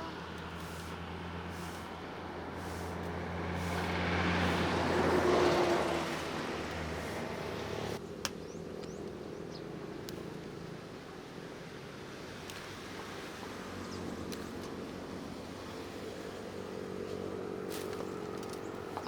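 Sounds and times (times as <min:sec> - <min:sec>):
vehicle passing by: 0:00.0 - 0:08.0, 0:11.0 - 0:19.0
vehicle engine humming: 0:00.0 - 0:19.0.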